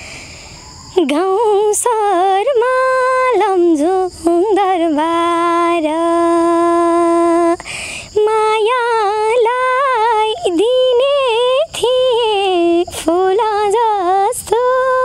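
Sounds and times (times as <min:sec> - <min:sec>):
girl singing unaccompanied: 0:00.8 - 0:15.0.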